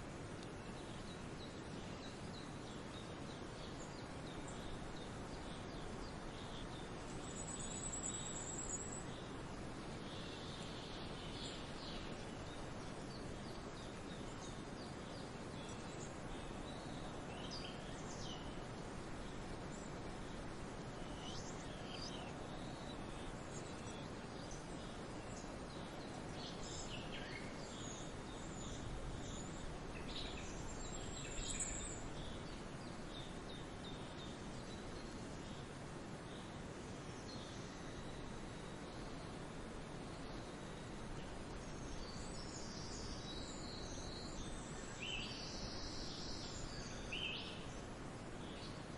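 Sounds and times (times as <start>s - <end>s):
outdoor background hiss: 0.0s - 48.9s
songbirds chirping: 0.0s - 48.9s.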